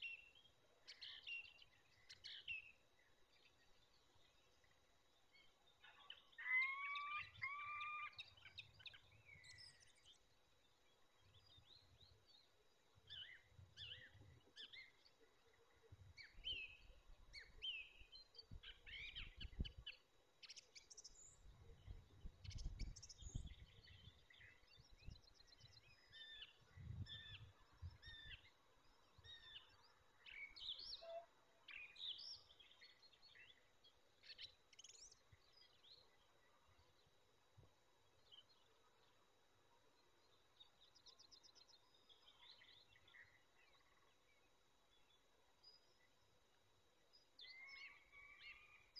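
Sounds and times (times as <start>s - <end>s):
small birds chirping and trilling: 0.0s - 37.3s, 40.0s - 46.2s.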